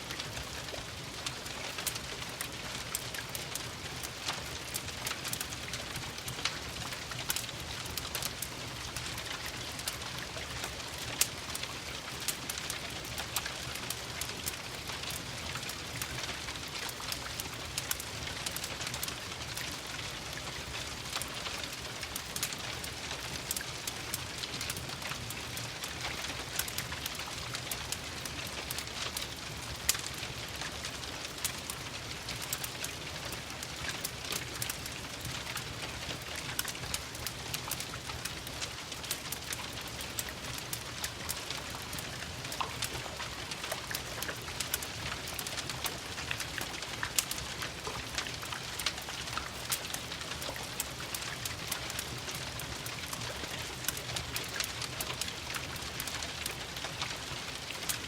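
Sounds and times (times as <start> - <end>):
steady rain falling: 0.0 - 58.0
wood fire popping and crackling: 0.1 - 58.0.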